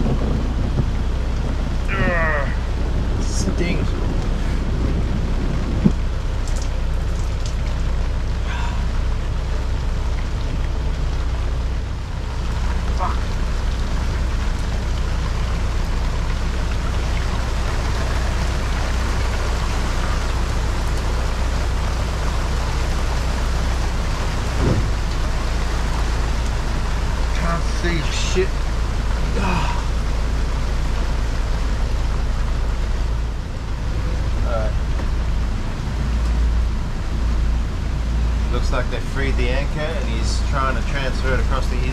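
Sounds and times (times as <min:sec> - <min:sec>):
low steady hum: 0:00.0 - 0:41.9
rain on a hard roof: 0:00.0 - 0:41.9.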